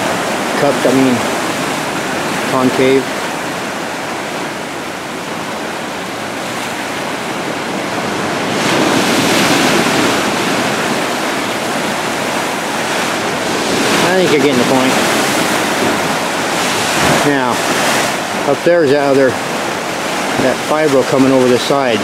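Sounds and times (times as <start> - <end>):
surf washing over rocky shore: 0.0 - 22.0
wind on microphone: 0.0 - 22.0.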